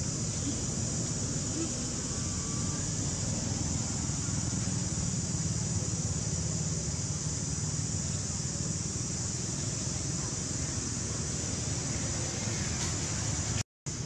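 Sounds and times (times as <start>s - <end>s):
high-pitched hiss: 0.0s - 14.0s.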